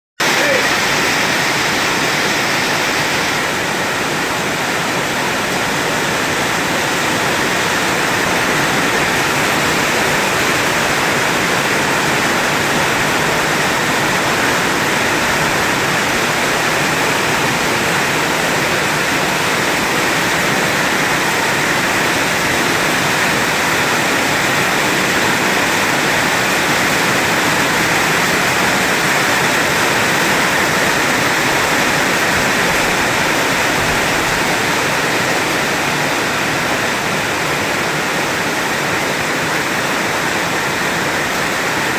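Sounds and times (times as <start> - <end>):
heavy rain pouring: 0.2 - 41.9.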